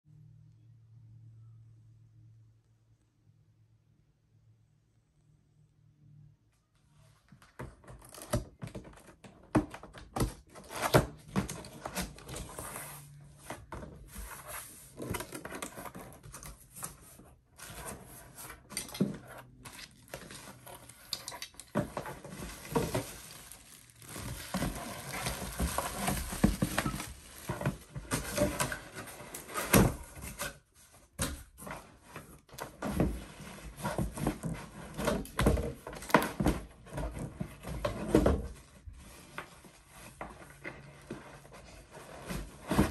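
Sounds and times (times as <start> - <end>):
cardboard box being unpacked: 7.7 - 42.9.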